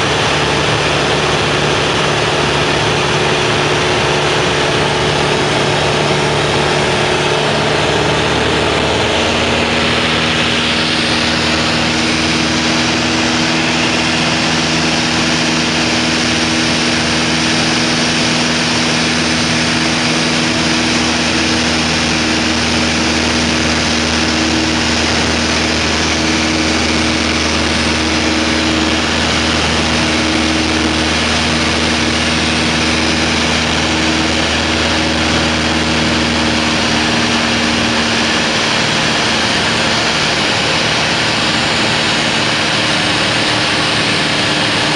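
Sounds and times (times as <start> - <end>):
light aircraft engine and propeller: 0.0 - 44.9
air rushing past cabin: 1.8 - 44.9.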